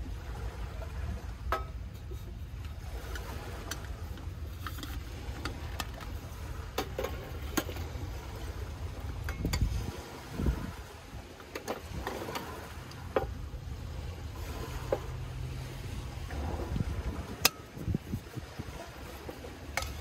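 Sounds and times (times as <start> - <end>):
wind and waves rumble: 0.0 - 20.0.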